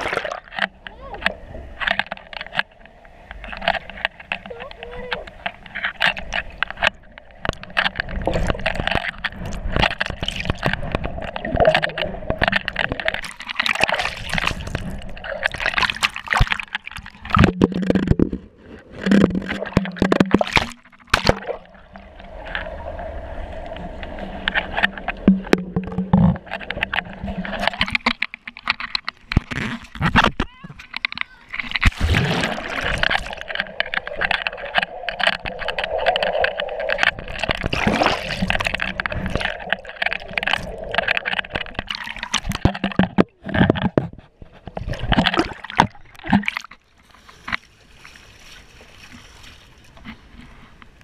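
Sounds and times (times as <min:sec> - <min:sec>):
water gurgling and bubbling underwater: 0:00.0 - 0:47.6
sharp clicks and knocks: 0:00.2 - 0:21.8, 0:24.4 - 0:32.0, 0:32.8 - 0:46.8.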